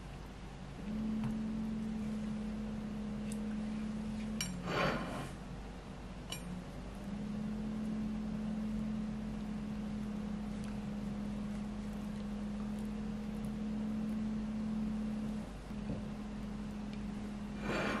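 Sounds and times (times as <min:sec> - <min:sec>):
small motor hum: 0:00.0 - 0:18.0.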